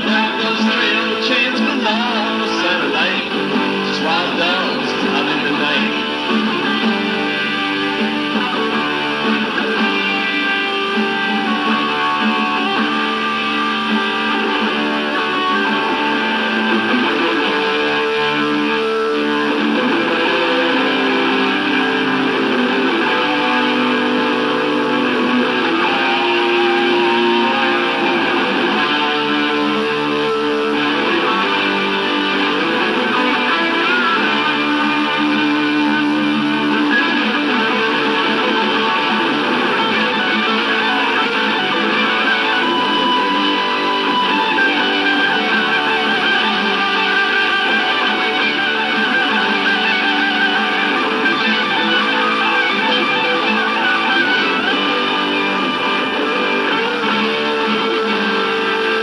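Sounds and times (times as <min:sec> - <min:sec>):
instrumental guitar music: 0:00.0 - 0:59.0.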